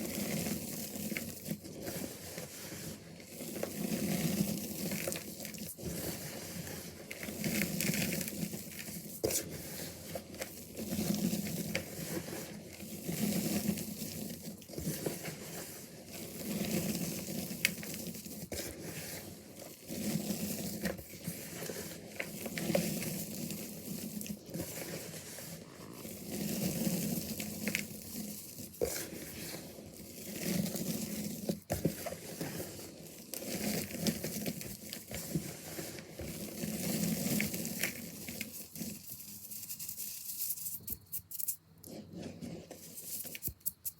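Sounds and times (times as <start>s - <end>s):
chalk crunching and crumbling: 0.0s - 43.9s.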